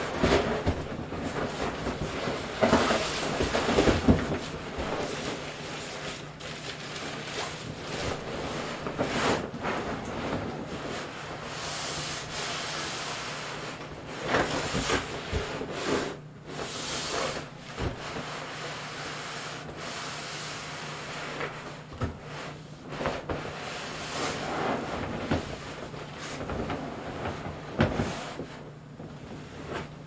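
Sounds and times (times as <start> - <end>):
plastic raincoat rustling: 0.0 - 30.0
vinyl pool rubbing: 0.0 - 30.0.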